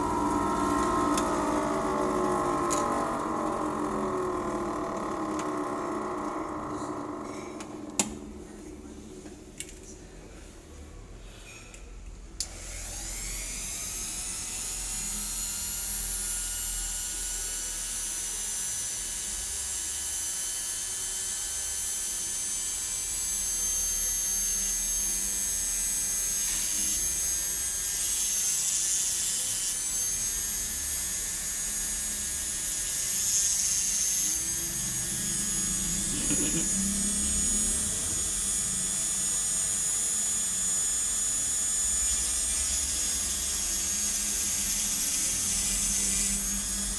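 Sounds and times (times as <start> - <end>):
electric grinder whine: 0.0 - 9.0, 12.4 - 46.9.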